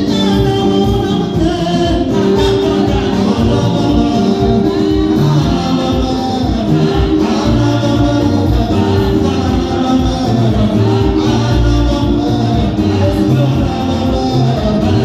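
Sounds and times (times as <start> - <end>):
amplified accompaniment with beat: 0.0 - 15.0
vocal group singing gospel: 0.0 - 15.0.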